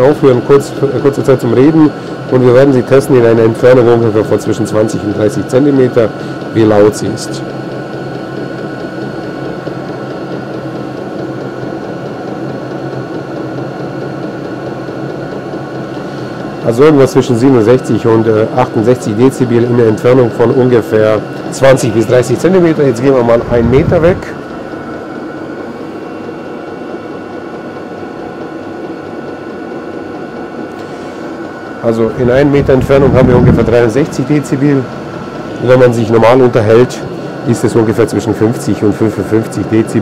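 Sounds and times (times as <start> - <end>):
air heater humming: 0.0 - 40.0
thin steady whine: 0.0 - 40.0.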